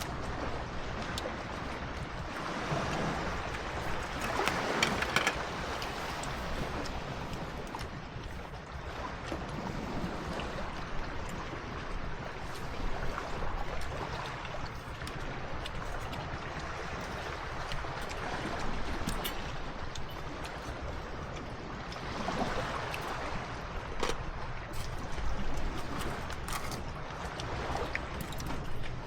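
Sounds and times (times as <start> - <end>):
small waves on a beach: 0.0 - 29.0.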